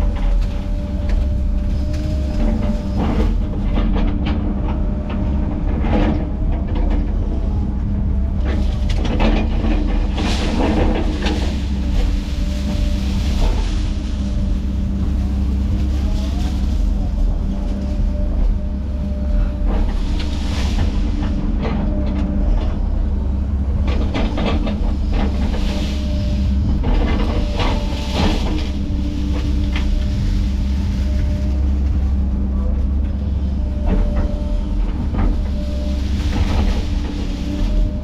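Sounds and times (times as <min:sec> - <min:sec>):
heavy diesel machinery running: 0:00.0 - 0:38.0.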